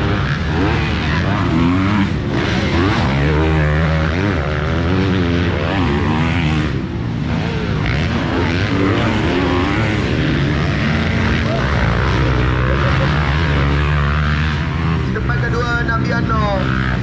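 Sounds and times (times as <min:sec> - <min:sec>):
dirt bike engines revving: 0:00.0 - 0:17.0
steady low drone: 0:00.0 - 0:17.0.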